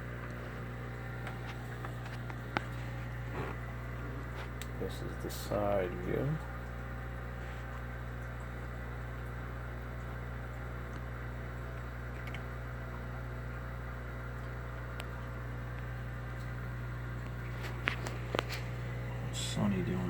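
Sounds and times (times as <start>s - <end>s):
aquarium equipment humming: 0.0s - 20.0s.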